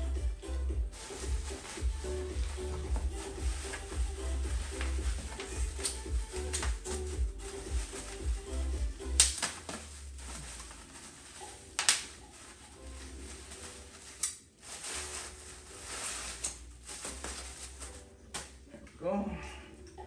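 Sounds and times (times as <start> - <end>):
plastic wrap rustling and crinkling: 0.8 - 18.6.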